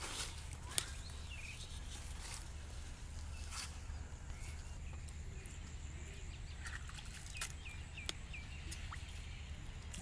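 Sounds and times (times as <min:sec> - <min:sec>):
bird chirping: 0:00.6 - 0:02.1, 0:03.2 - 0:10.0.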